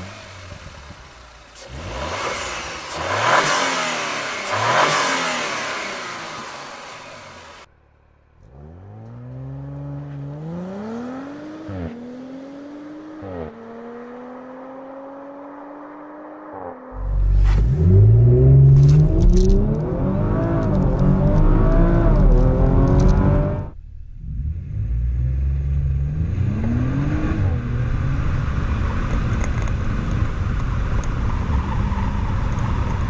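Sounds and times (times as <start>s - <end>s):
car accelerating away: 0.0s - 7.7s, 8.4s - 33.0s
car engine revving: 0.0s - 33.0s.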